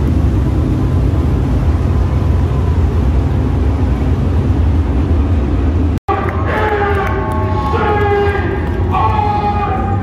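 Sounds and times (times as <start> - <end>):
race car engines rumbling: 0.0 - 10.0.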